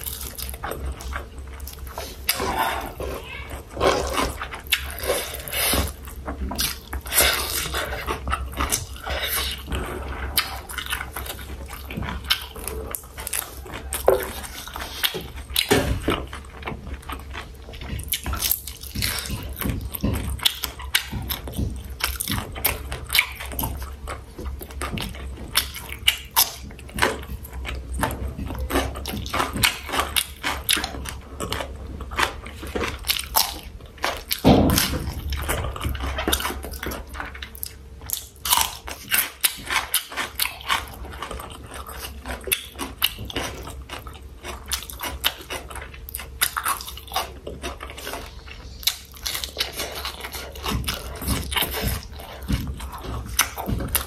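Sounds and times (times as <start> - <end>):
chewing and mouth smacks: 0.0 - 54.0.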